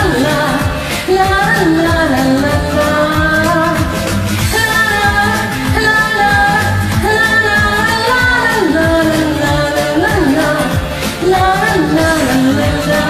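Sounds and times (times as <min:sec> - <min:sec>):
pop backing track: 0:00.0 - 0:13.0
woman singing: 0:00.0 - 0:13.0.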